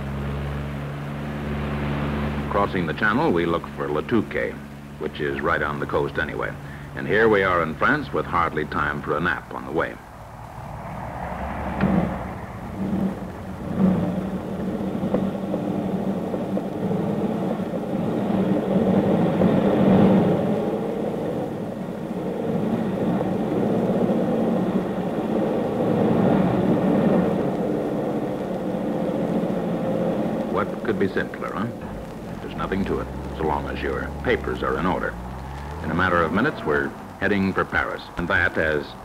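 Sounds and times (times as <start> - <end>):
rough engine drone: 0.0 - 39.0.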